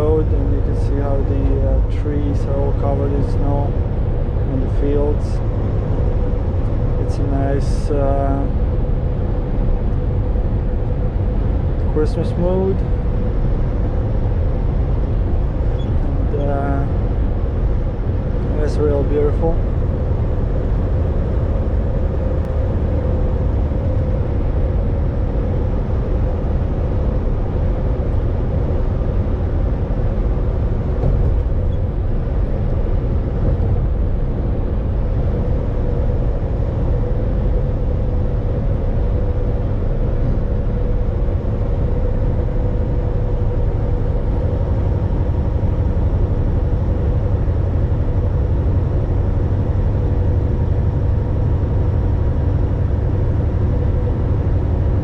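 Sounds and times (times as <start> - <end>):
road and tyre noise: 0.0 - 55.0
truck engine drone: 0.0 - 55.0.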